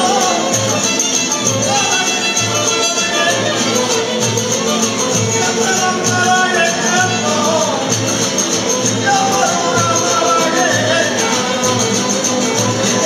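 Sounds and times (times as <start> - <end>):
guitars strumming: 0.0 - 13.0.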